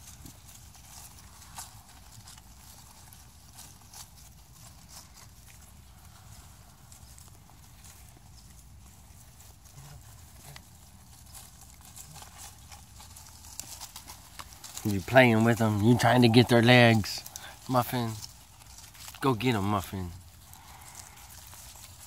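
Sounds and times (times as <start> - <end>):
dry leaves crackling under paws: 0.0 - 22.0
low steady rumble: 0.0 - 22.0.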